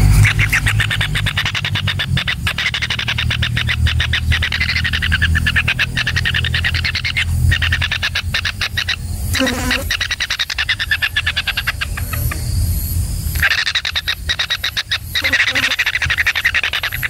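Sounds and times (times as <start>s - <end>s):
low rumble: 0.0s - 17.0s
nestlings rattling chatter: 0.0s - 17.0s.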